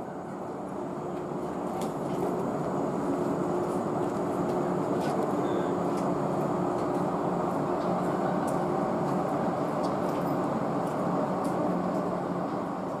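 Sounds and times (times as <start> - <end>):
train equipment hum and whirr: 0.0 - 13.0.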